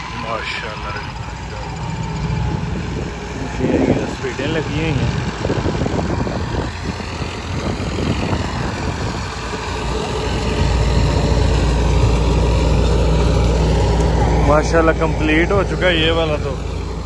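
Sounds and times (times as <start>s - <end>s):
thresher running: 0.0s - 17.0s
tractor engine droning: 0.0s - 17.0s.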